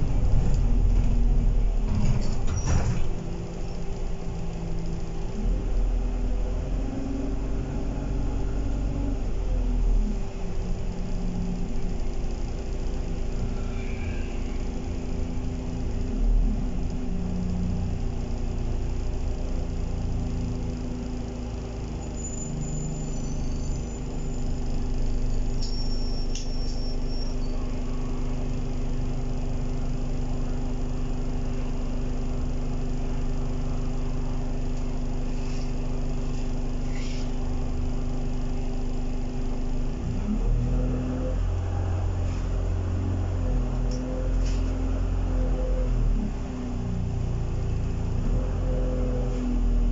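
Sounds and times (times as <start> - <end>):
low road rumble: 0.0 - 26.8, 27.4 - 49.9
bus engine hum: 0.0 - 49.9.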